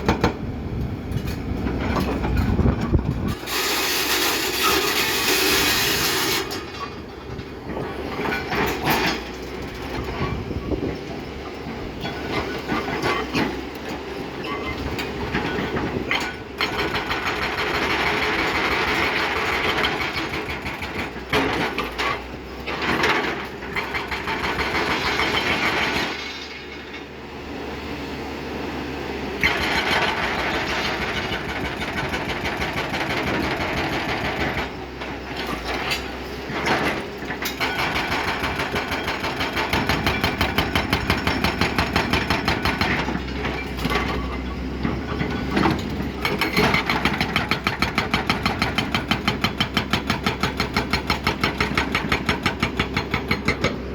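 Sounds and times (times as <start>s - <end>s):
excavator engine running: 0.0s - 26.2s, 27.2s - 53.9s.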